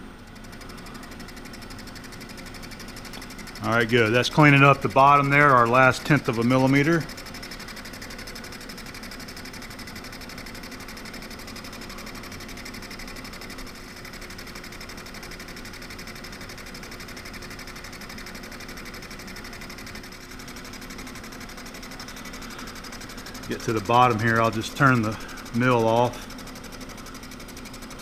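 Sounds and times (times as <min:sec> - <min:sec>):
milling machine running: 0:00.0 - 0:28.0.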